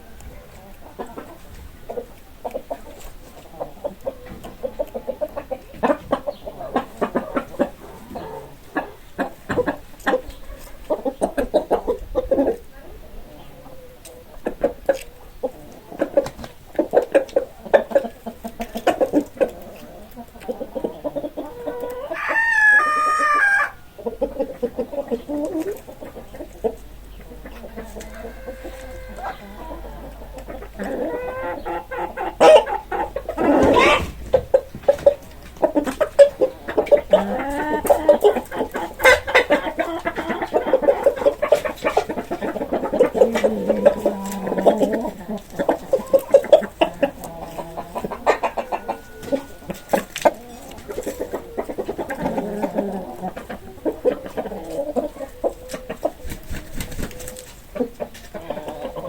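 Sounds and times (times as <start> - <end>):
chickens clucking and squawking: 0.0 - 59.0.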